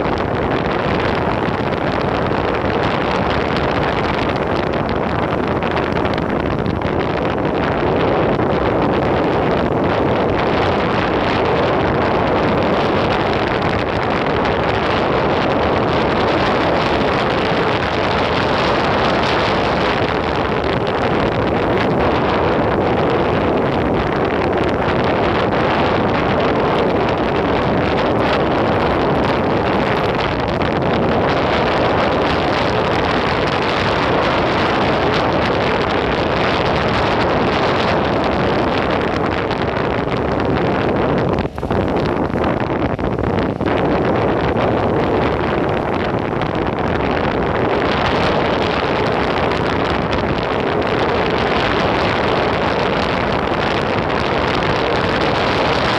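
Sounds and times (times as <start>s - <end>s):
skateboard wheels rolling on pavement: 0.0s - 55.9s
wind buffeting microphone: 0.0s - 55.9s.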